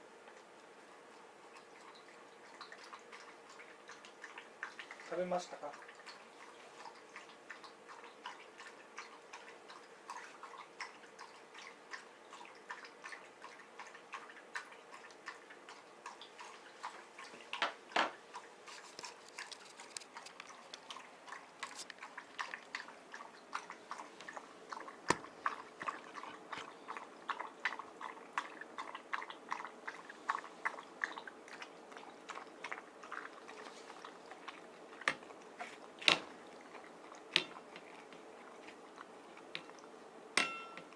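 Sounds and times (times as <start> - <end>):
dog chewing and crunching food: 0.0 - 40.9.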